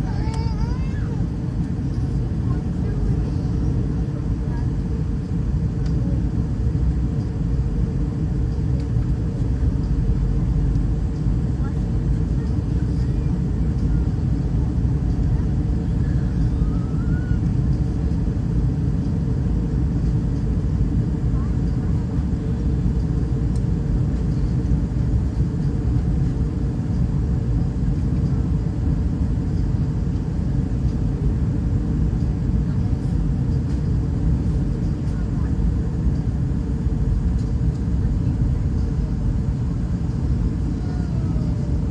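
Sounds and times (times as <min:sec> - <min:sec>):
airliner in flight droning: 0:00.0 - 0:41.9
airplane cabin rumble: 0:00.0 - 0:41.9.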